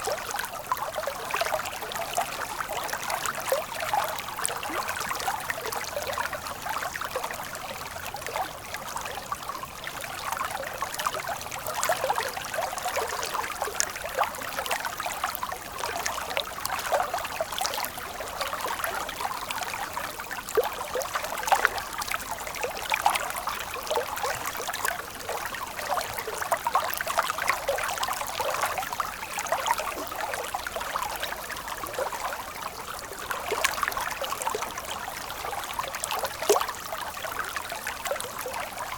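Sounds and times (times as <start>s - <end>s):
stream water flowing and trickling: 0.0s - 38.9s.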